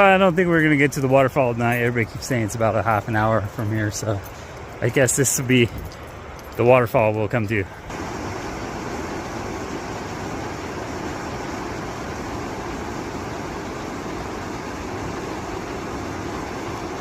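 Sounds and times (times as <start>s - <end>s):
river water rushing at waterfall: 1.9s - 17.0s.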